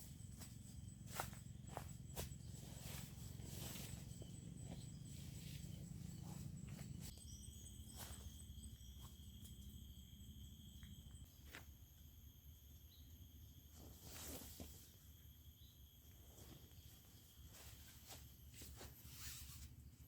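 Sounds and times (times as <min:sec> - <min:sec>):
insects calling: 0:00.0 - 0:20.0.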